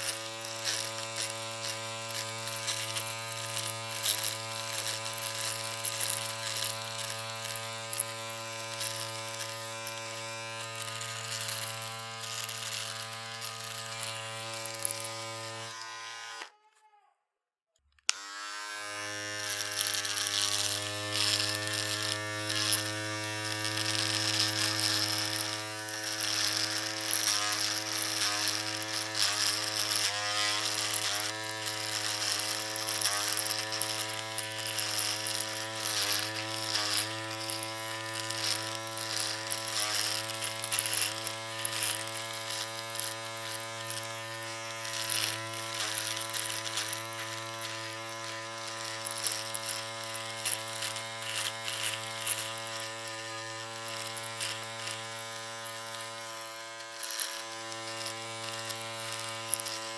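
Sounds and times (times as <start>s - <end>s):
electric shaver buzzing: 0.0s - 16.7s, 18.0s - 59.9s.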